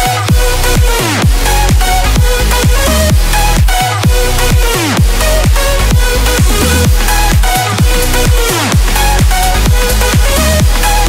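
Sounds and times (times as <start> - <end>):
kick drum: 0.0 - 11.0
synth melody: 0.0 - 11.0.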